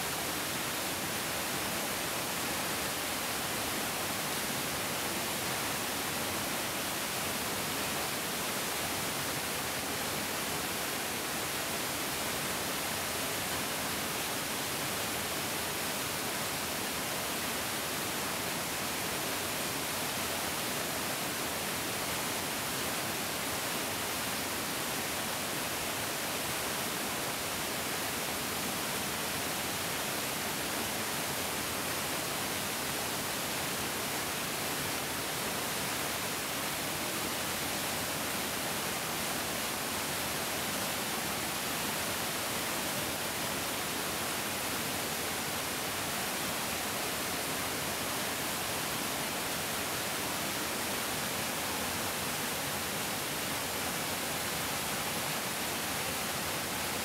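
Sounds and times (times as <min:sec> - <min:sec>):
stream rushing: 0:00.0 - 0:57.0.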